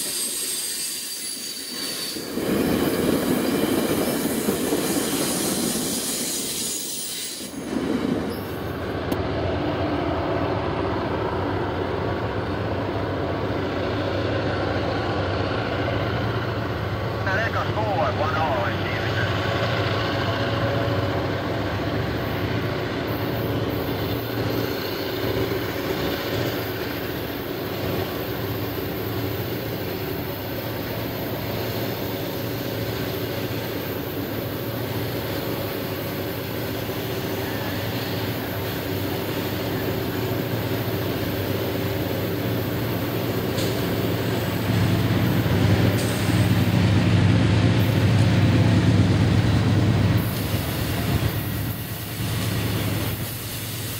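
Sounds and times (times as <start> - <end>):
diesel locomotive engine drone: 0.0 - 53.9
rolling train noise: 0.0 - 53.9.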